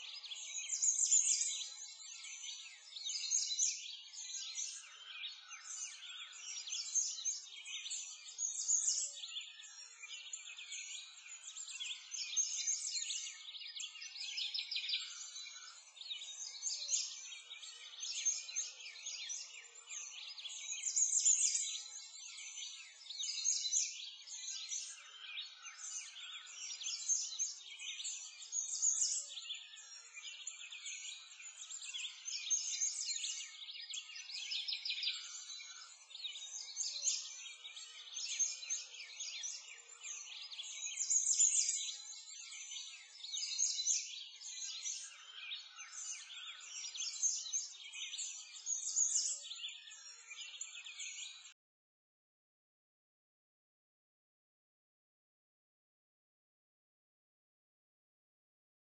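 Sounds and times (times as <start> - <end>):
songbirds chirping and twittering: 0.0 - 51.6.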